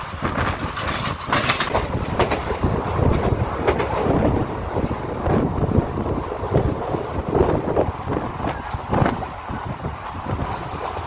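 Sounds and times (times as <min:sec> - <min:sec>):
train wheel clacks: 0:00.0 - 0:11.0
train wheels rumbling on rails: 0:00.0 - 0:11.0.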